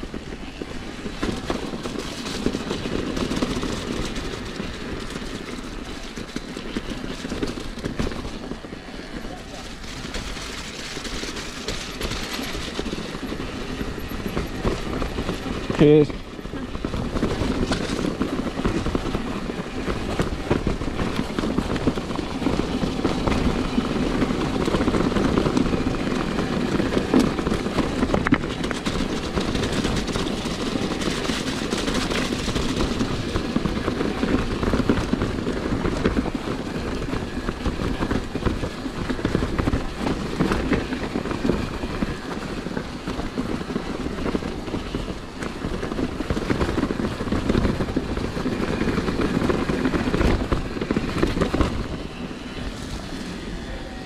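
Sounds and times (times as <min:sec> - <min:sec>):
bike rattling over rough trail: 0:00.0 - 0:54.0.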